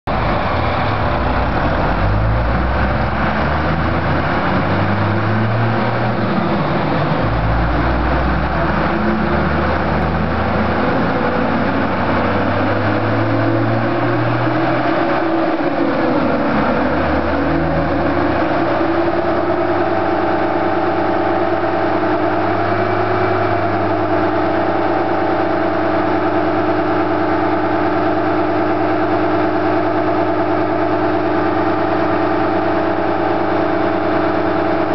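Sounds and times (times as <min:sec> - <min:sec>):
diesel engine roaring under load: 0:00.1 - 0:34.9.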